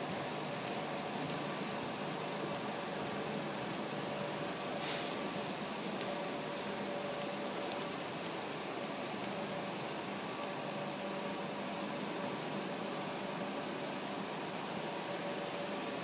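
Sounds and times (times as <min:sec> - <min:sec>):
faint constant hum: 0:00.0 - 0:16.0
film projectors whirring: 0:00.0 - 0:16.0.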